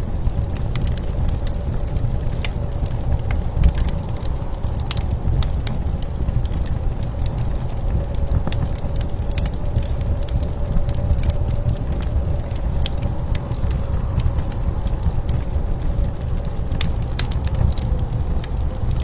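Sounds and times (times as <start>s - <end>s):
blizzard wind rumble: 0.0s - 19.0s
wood fire crackling and popping: 0.0s - 19.0s.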